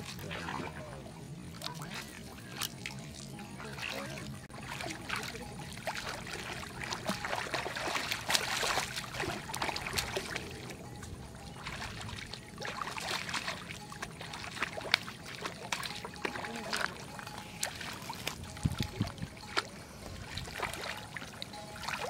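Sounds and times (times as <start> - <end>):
fish thrashing and splashing: 0.0 - 22.0.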